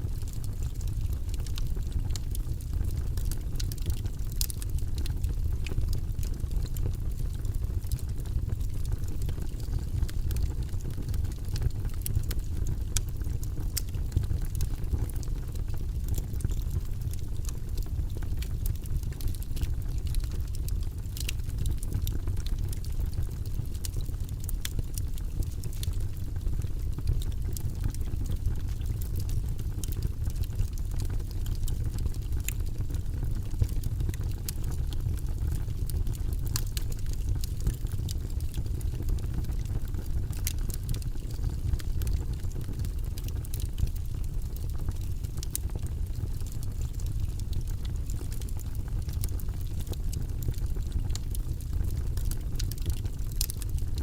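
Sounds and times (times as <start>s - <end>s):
fire crackles and pops: 0.0s - 54.0s
fireplace flame rumble: 0.0s - 54.0s.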